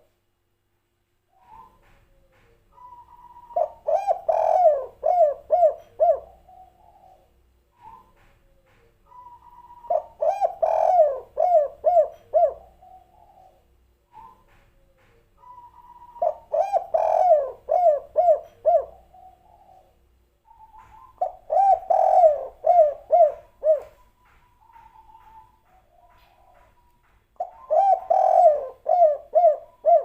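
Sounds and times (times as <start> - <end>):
dove cooing: 1.4 - 8.1, 9.0 - 14.4, 15.4 - 30.0.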